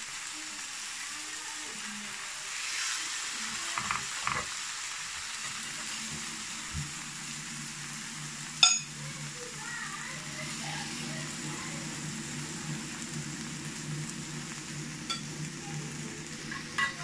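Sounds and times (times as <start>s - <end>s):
eggs sizzling in a pan: 0.0s - 17.0s.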